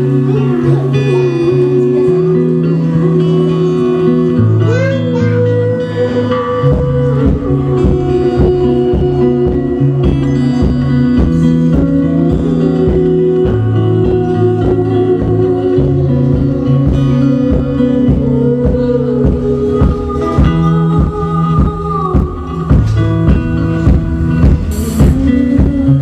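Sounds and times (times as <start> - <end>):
band playing live: 0.0 - 26.0
plucked strings: 0.0 - 26.0.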